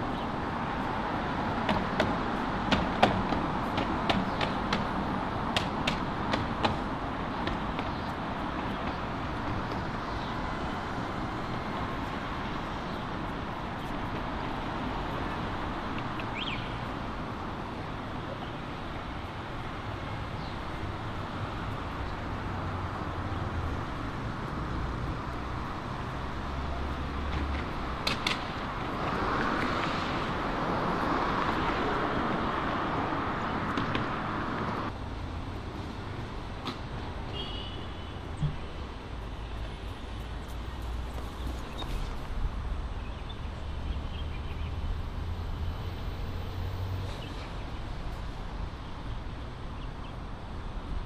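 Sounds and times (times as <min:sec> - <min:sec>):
city street traffic: 0:00.0 - 0:51.0.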